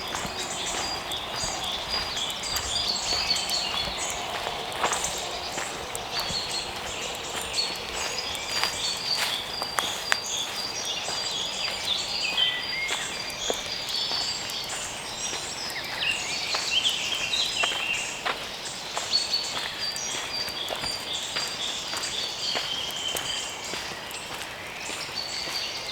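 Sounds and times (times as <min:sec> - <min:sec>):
footsteps crunching on dry leaves: 0:00.0 - 0:25.9
songbirds singing: 0:00.0 - 0:25.9.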